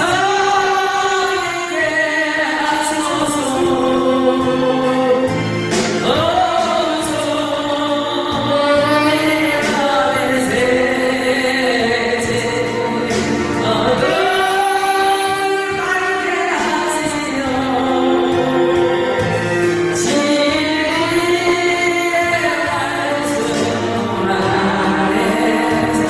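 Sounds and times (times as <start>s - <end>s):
instrumental accompaniment: 0.0s - 26.0s
woman singing gospel song: 0.0s - 26.0s.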